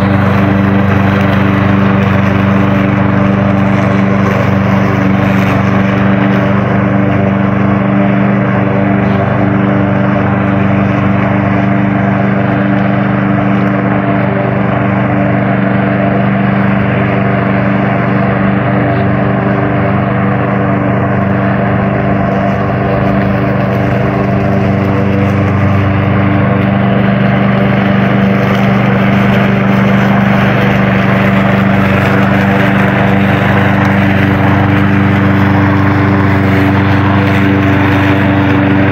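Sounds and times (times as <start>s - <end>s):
robotic lawn mower humming: 0.0s - 38.9s.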